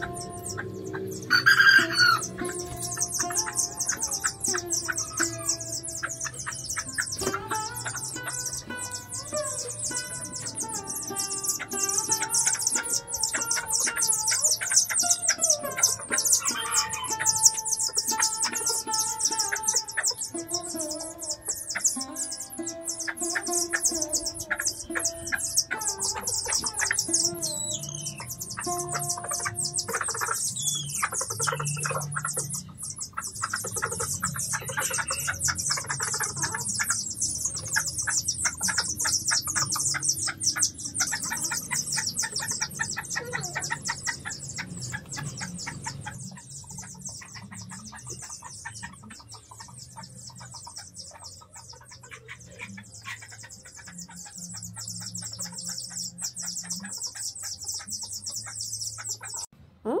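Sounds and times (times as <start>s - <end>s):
steady high chirring: 0.0s - 59.5s
background music: 0.0s - 60.0s
chicks cheeping: 0.0s - 60.0s
hen clucking: 0.0s - 60.0s.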